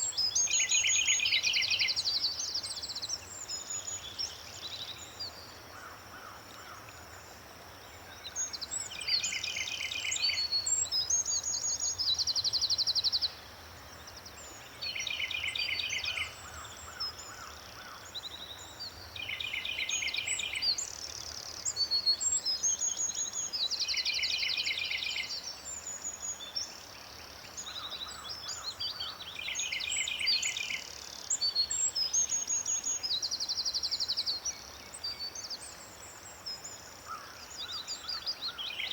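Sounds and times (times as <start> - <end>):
birds singing and chirping: 0.0 - 7.1, 7.9 - 13.4, 14.1 - 38.9
faint background hiss: 0.0 - 38.9.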